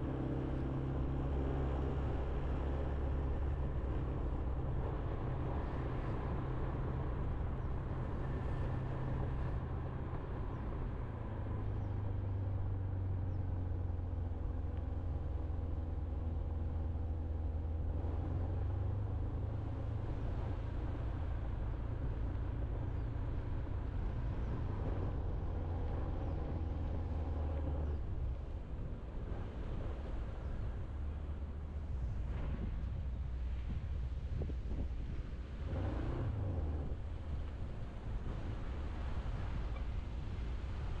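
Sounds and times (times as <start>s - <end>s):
wind rumble on microphone: 0.0s - 41.0s.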